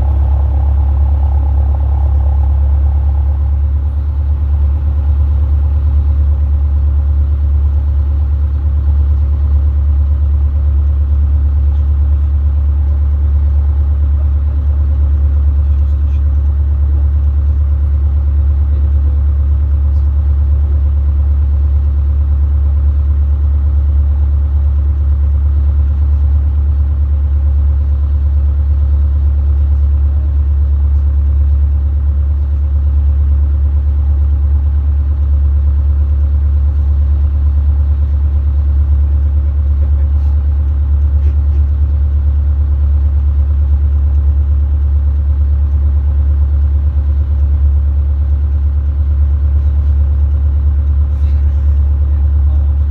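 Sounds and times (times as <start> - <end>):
light aircraft engine drone: 0.0 - 52.9.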